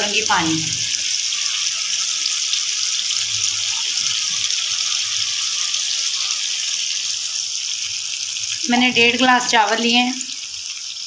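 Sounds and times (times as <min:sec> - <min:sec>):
water pouring into hot pan: 0:00.0 - 0:11.0.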